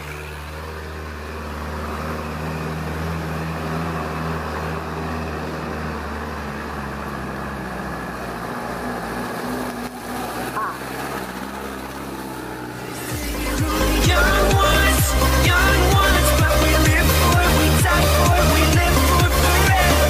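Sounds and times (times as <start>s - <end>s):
diesel truck engines droning: 0.0s - 20.0s
truck passing: 0.0s - 20.0s.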